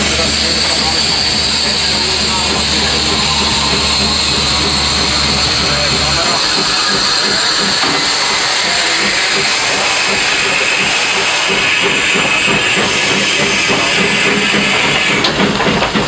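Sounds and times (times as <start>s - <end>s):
steam hissing: 0.0s - 16.0s.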